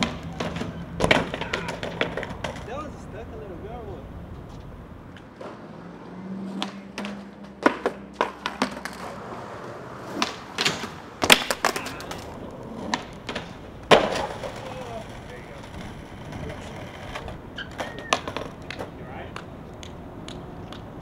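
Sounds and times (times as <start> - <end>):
skateboard clacking on pavement: 0.0 - 3.1, 6.4 - 21.0.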